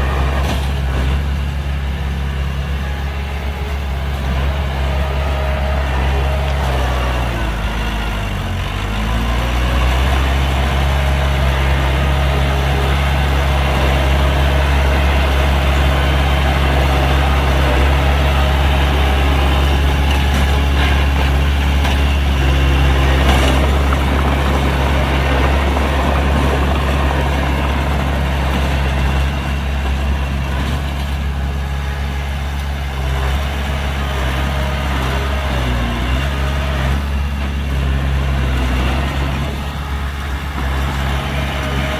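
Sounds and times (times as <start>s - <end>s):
heavy diesel engine droning: 0.0s - 41.9s.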